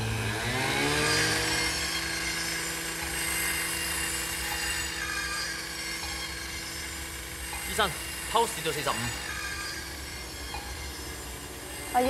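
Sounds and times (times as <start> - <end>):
power tool motor whining: 0.0 - 12.0.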